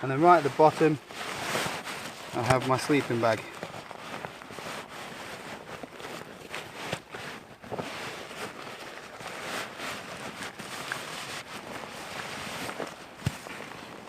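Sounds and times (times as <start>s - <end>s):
nylon fabric rustling: 0.0s - 14.0s.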